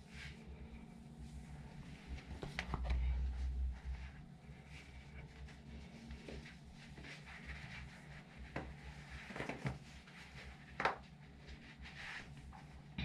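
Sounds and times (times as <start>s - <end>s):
low room hum: 0.0s - 13.0s
faint knocks and rustles: 1.8s - 12.9s.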